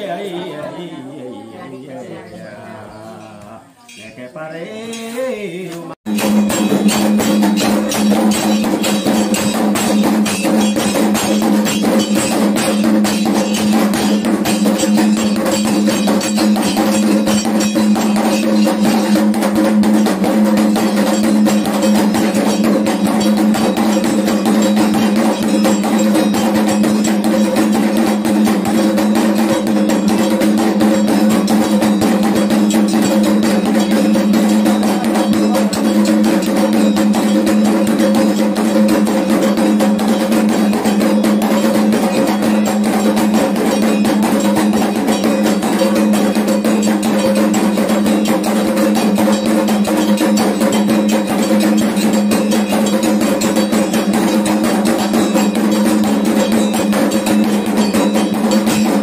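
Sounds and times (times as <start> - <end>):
hand drums beating: 6.0 - 59.0.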